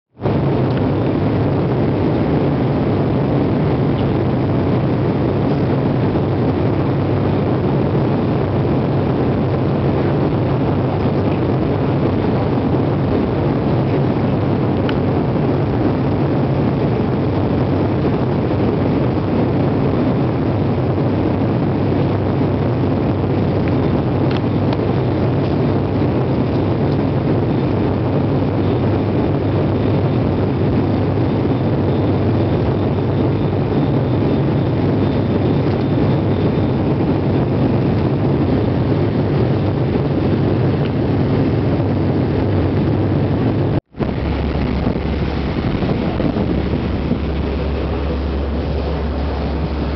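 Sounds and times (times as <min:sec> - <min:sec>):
airplane engines humming: 0:00.1 - 0:49.9
rush of air: 0:00.1 - 0:49.9.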